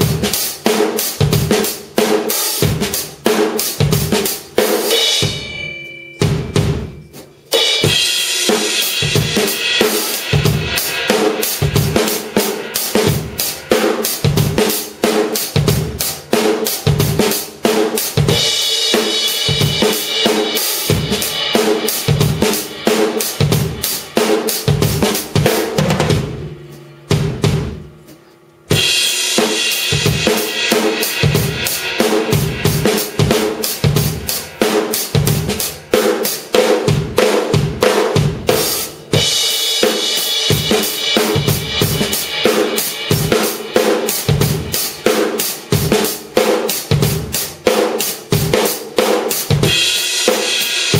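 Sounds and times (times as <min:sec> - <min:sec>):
drum kit groove: 0:00.0 - 0:50.9.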